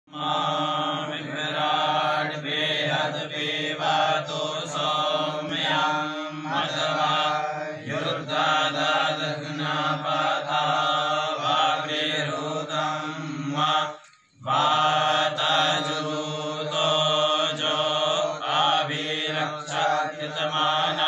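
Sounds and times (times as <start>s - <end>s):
men chanting together: 0.1s - 21.0s.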